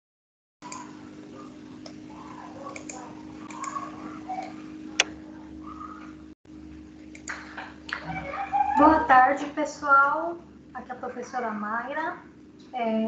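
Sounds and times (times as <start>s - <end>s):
faint small noises: 0.6s - 13.0s.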